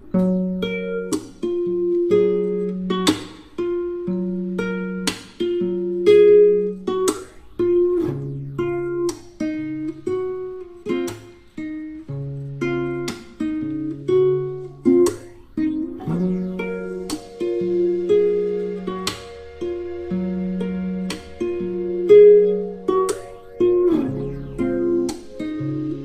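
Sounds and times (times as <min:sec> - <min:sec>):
acoustic guitar tune: 0:00.0 - 0:26.0.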